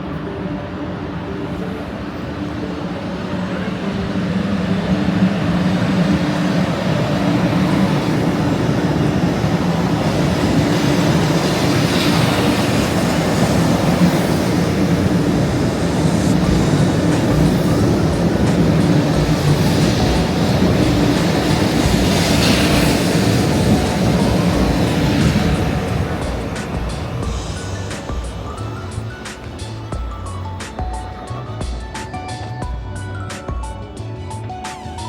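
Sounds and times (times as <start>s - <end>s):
high-speed train running: 0.0s - 35.0s.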